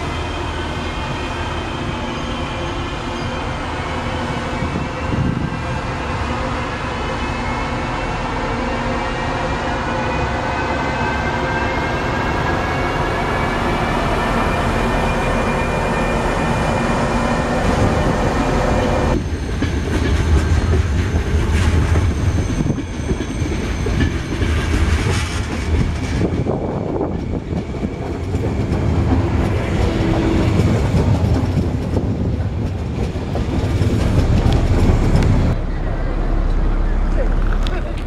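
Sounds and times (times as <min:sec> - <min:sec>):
electric train passing: 0:00.0 - 0:38.0
passenger train rolling out: 0:00.0 - 0:38.0
wheels rumbling on rails: 0:00.0 - 0:38.0.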